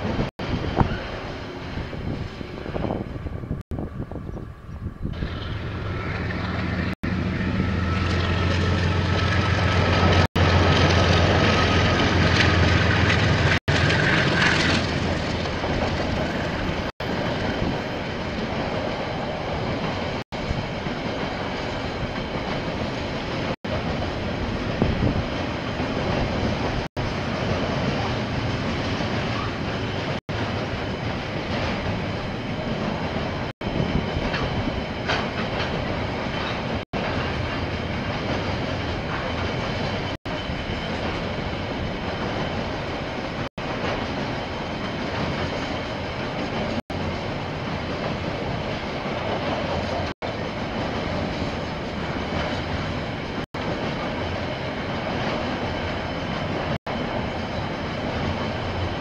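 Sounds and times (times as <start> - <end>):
diesel locomotive engine hum: 0.0 - 59.0
train rolling rumble: 0.0 - 59.0.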